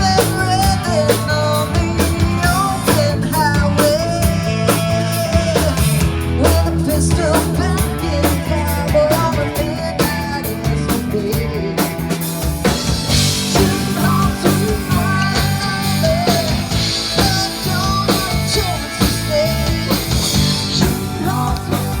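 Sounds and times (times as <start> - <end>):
bass guitar: 0.0 - 22.0
drum kit beat: 0.0 - 22.0
electric guitar: 0.0 - 22.0.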